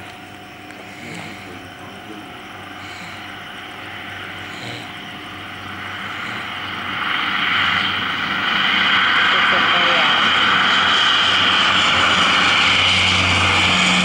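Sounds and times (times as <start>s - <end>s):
turboprop airliner engine noise: 0.0s - 14.0s.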